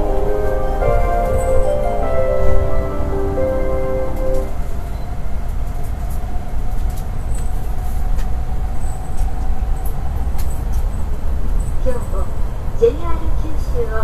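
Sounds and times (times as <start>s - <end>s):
train cabin rumble: 0.0s - 14.0s.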